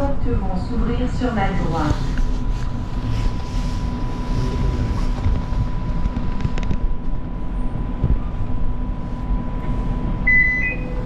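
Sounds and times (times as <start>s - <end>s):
faint high hum: 0.0s - 11.0s
train equipment rumble: 0.0s - 11.0s.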